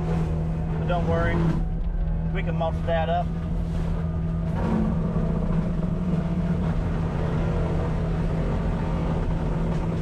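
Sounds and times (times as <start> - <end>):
mulcher engine droning under load: 0.0 - 10.0.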